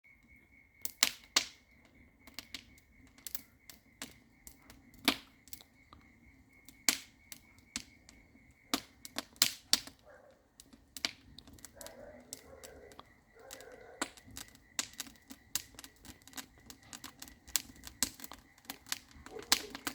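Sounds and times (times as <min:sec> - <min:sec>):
wood fire crackling: 0:00.1 - 0:19.9.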